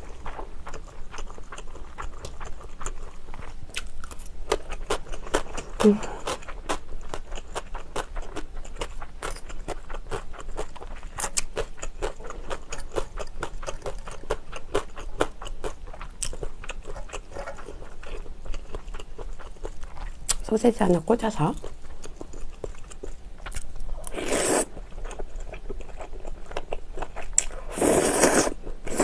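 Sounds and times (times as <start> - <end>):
chewing with wet mouth clicks: 0.0 - 20.5, 21.6 - 24.1, 24.8 - 29.0.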